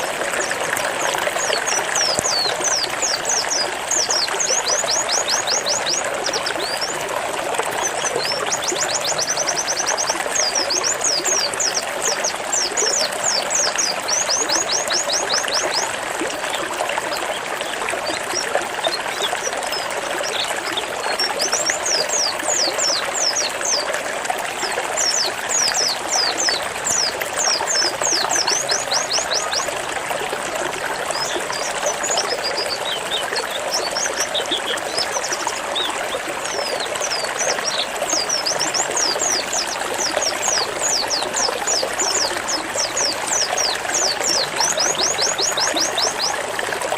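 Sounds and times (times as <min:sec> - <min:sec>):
trickling water: 0:00.0 - 0:46.9.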